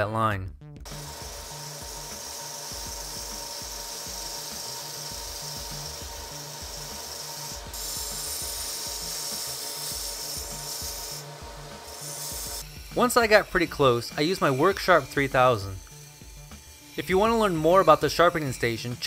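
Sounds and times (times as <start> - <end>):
belt sander grinding metal: 0.9 - 19.0.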